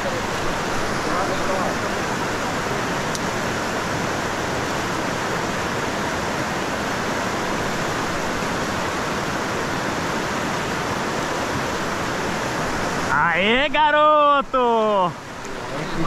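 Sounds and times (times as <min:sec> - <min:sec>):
river rapid rushing: 0:00.0 - 0:16.0.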